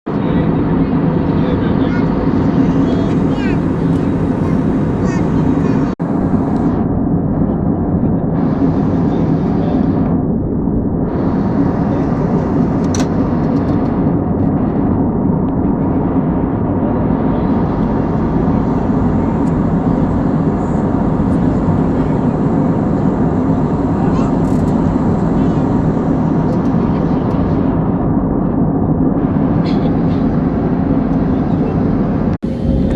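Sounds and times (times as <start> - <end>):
airliner cabin engine roar: 0.1 - 32.9.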